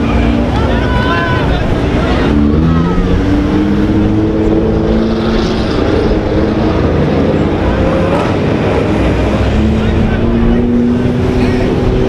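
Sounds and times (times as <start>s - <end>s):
car engines running hard: 0.0s - 12.0s.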